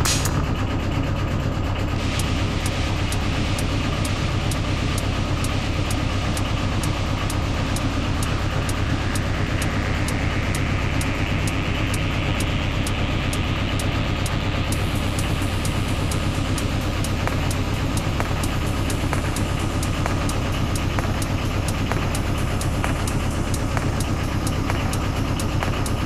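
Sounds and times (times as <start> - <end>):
fuel pump ticking: 2.0 - 26.0
heater blower humming: 2.0 - 26.0.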